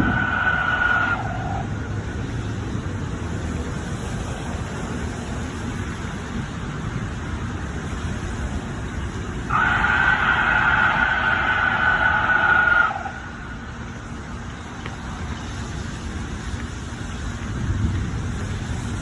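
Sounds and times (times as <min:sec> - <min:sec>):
outdoor background rumble and hiss: 0:00.0 - 0:19.0.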